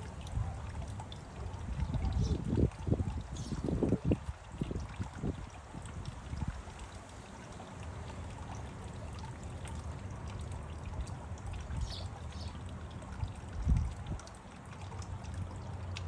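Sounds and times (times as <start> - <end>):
fountain water bubbling and trickling: 0.0 - 16.0.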